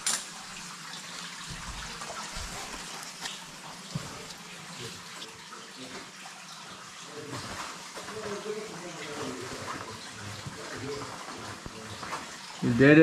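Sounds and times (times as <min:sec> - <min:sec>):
running water in a cave: 0:00.0 - 0:13.0.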